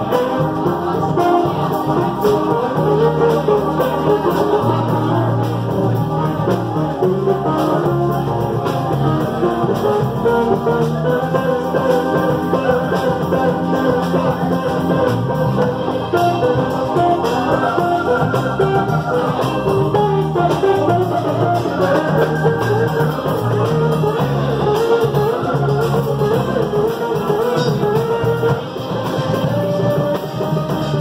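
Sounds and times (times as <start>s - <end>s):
electric guitar melody: 0.0s - 31.0s
live band playing: 0.0s - 31.0s.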